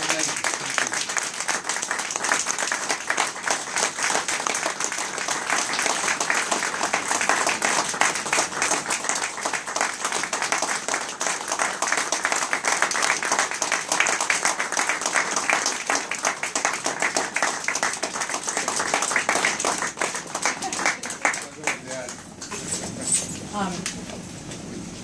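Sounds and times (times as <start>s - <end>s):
audience applauding: 0.0s - 22.2s.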